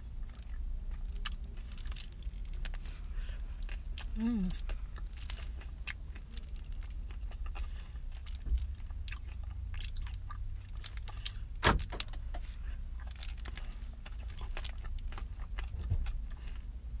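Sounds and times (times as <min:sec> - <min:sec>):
car hum: 0:00.0 - 0:17.0.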